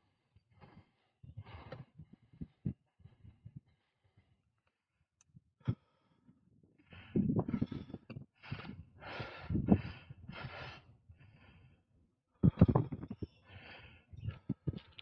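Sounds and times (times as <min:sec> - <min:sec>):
person breathing hard: 0:00.0 - 0:04.4, 0:05.6 - 0:15.0.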